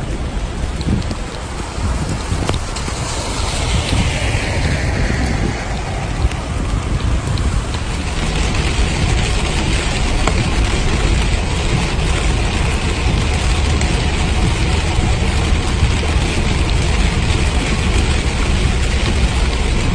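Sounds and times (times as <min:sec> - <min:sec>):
low rumble: 0:00.0 - 0:19.9
rain falling: 0:00.0 - 0:19.9.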